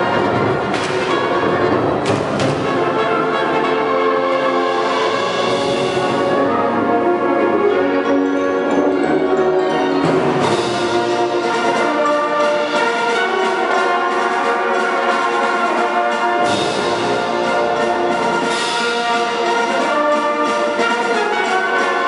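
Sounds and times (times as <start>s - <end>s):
concert band playing chords: 0.0s - 22.0s.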